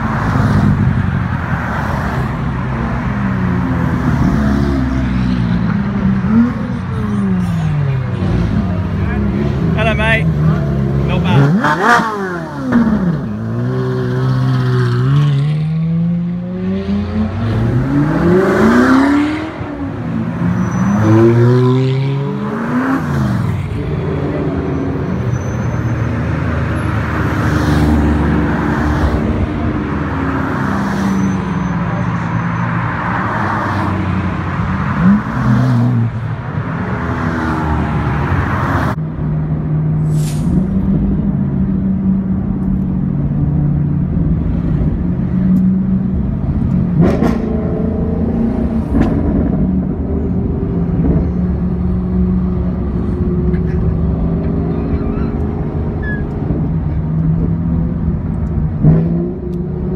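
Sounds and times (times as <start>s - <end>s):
cars revving past: 0.0s - 59.9s
steady car engine drone: 0.0s - 59.9s.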